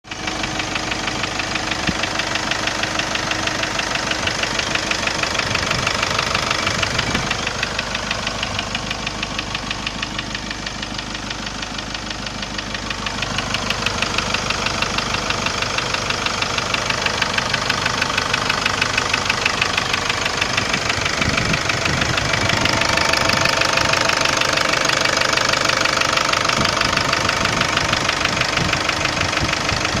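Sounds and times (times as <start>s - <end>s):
car engine knocking: 0.0s - 30.0s.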